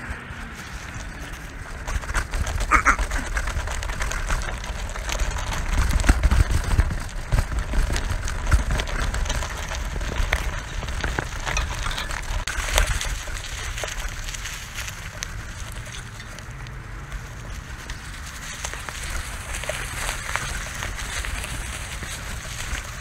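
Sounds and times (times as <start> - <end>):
bike rattling over bumps: 0.0 - 23.0
bike tyres crunching: 0.0 - 23.0.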